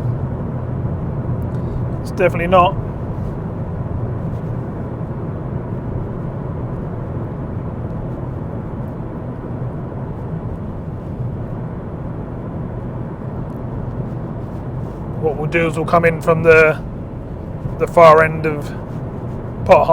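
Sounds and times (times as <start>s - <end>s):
car cabin road and engine rumble: 0.0s - 19.9s.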